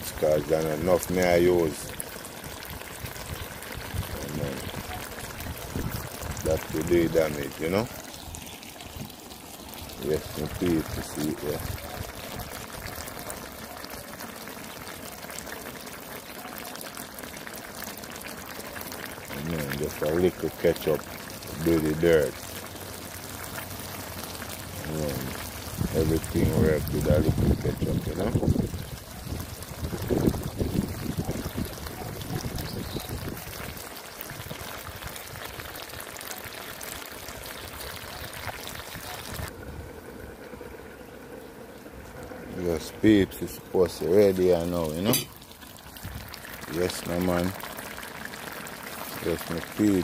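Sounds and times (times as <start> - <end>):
charcoal fire crackling: 0.0 - 50.0
stew bubbling: 0.0 - 50.0.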